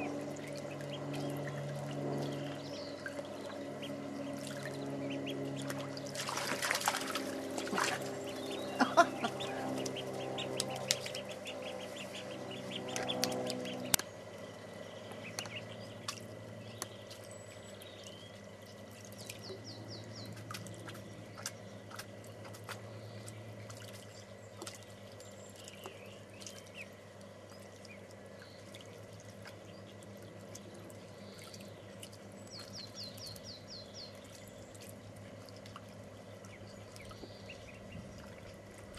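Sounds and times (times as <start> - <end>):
ducklings peeping: 0.0 - 38.9
ducklings splashing in water: 0.0 - 38.9
steady low hum: 0.0 - 38.9.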